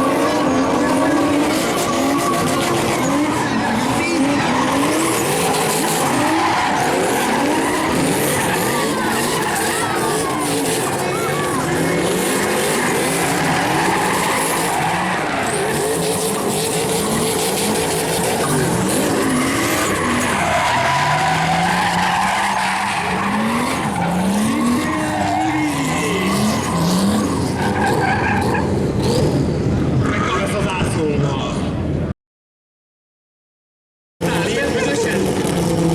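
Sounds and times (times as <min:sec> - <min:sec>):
car engine revving hard: 0:00.0 - 0:29.5
tyres skidding: 0:00.0 - 0:30.6, 0:34.2 - 0:35.9.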